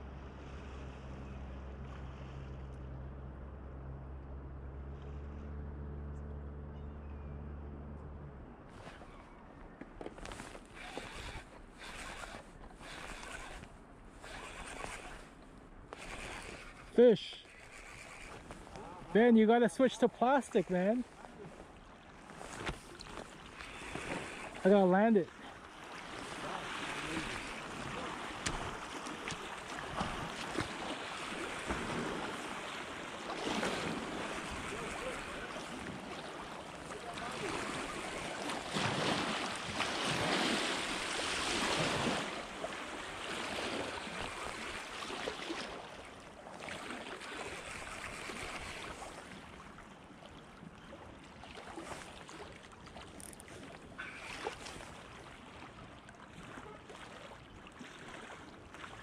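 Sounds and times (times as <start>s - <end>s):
river water lapping on rocks: 8.7s - 59.0s.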